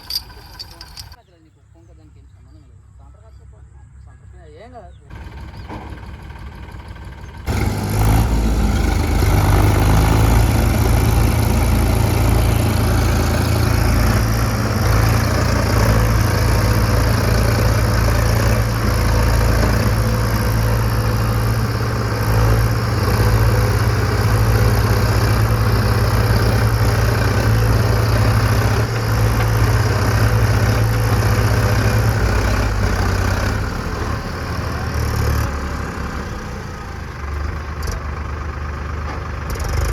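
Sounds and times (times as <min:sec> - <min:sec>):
diesel tractor engine droning: 0:00.0 - 0:01.2, 0:05.1 - 0:39.9.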